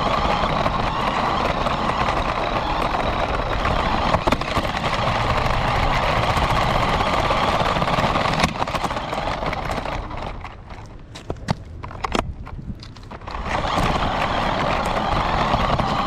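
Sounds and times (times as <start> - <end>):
toy car motor whirring: 0.0 - 10.9, 13.0 - 16.0.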